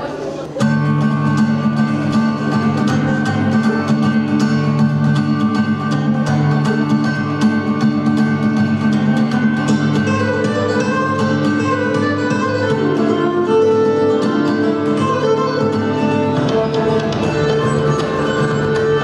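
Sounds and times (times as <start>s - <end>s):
instrumental music with beat: 0.8s - 19.0s.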